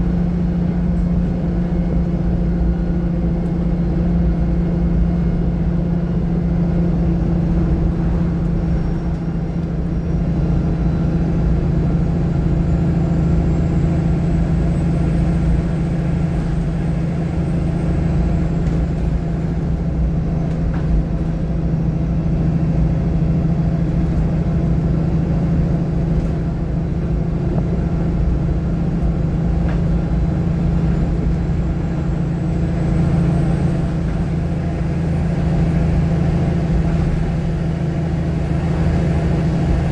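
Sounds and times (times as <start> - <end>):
bus engine droning: 0.0 - 39.9.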